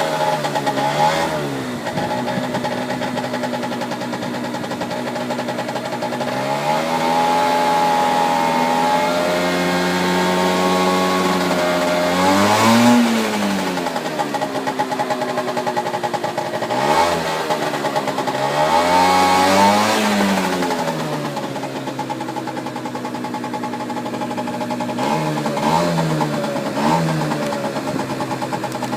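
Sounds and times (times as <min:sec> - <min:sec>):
scooter engine idling: 0:00.0 - 0:28.9.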